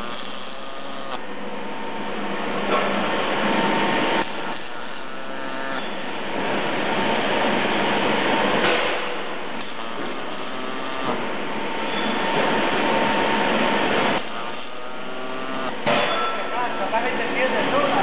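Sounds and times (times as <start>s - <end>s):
welding robot machine noise: 0.0s - 18.0s.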